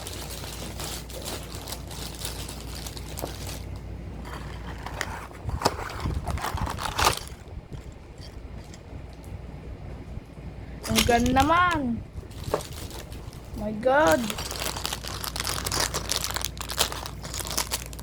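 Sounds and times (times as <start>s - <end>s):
plastic packaging rustling: 0.0s - 8.8s, 10.8s - 18.0s.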